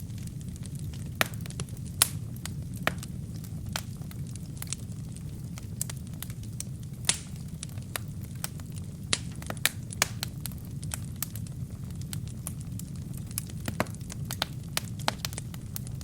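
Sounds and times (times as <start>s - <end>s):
low rumble of flames: 0.0s - 16.0s
wood crackling in a fireplace: 0.0s - 16.0s.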